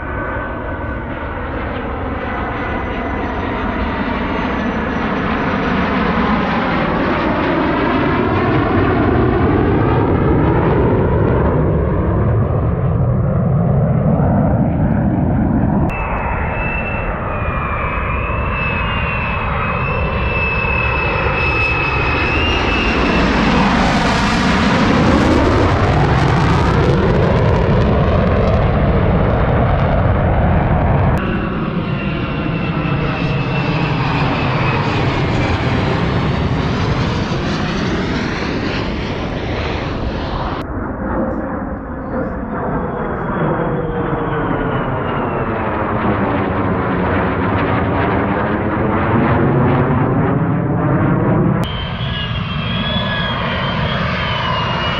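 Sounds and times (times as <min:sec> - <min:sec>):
fighter jets flying low: 0:00.0 - 0:54.9.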